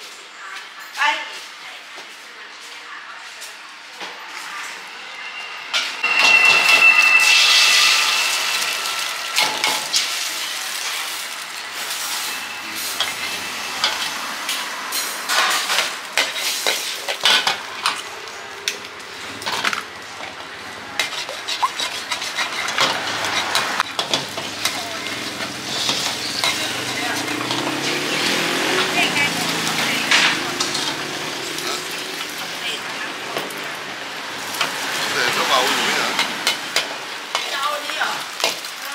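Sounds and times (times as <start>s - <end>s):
metal utensils scraping a wok: 4.2s - 38.8s
eggs sizzling in hot oil: 6.1s - 19.6s, 20.3s - 38.9s.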